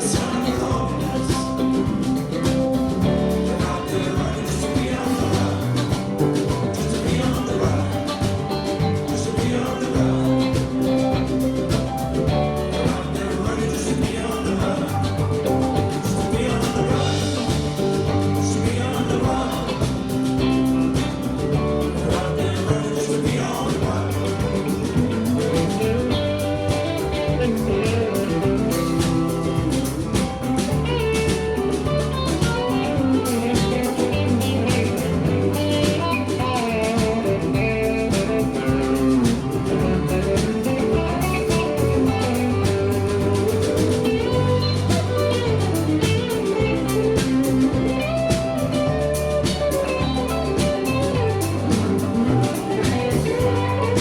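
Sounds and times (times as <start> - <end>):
band playing country-rock song: 0.0 - 54.0.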